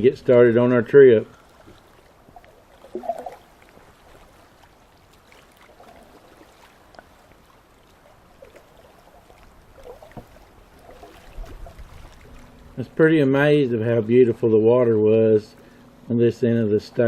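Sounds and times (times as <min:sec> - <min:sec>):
small water splashes: 0:00.0 - 0:16.2
paddle dips and drips: 0:00.0 - 0:17.0.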